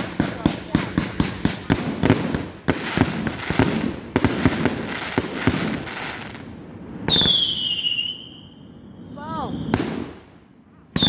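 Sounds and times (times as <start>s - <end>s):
fireworks crackling: 0.0s - 10.3s.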